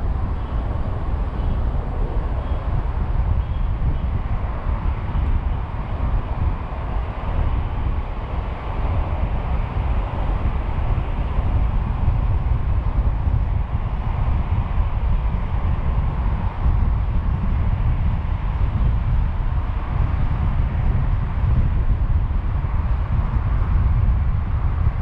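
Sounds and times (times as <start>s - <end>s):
car tyre and road noise: 0.0s - 25.0s.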